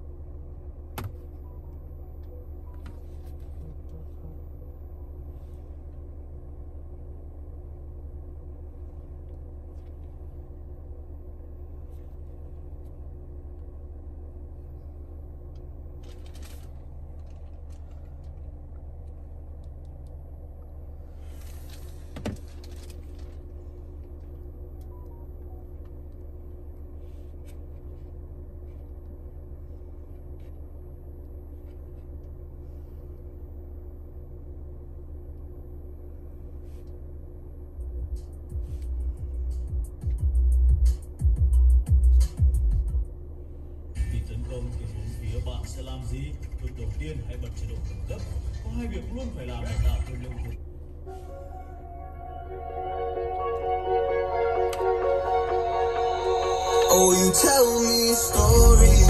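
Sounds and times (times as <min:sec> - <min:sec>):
car cabin low hum: 0:00.0 - 0:59.0.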